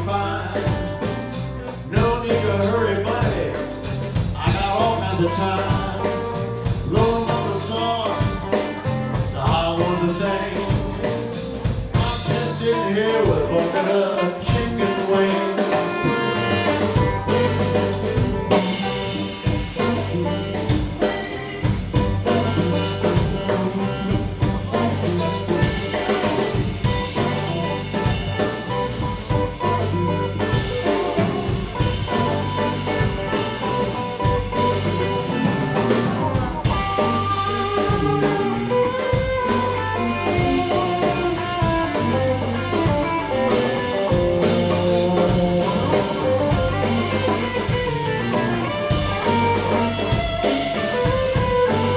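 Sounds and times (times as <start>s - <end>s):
electric guitars: 0.0s - 51.9s
live blues band playing: 0.0s - 51.9s.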